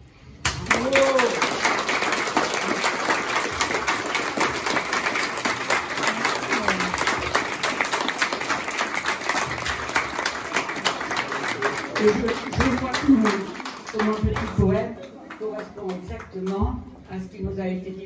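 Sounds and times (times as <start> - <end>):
crowd applauding: 0.4 - 16.3.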